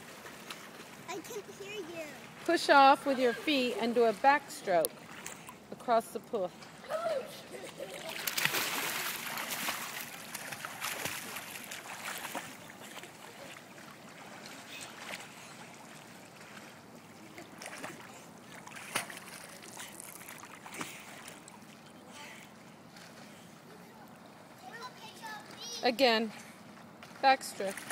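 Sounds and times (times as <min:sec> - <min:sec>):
swimmer splashing water: 0:00.0 - 0:27.9.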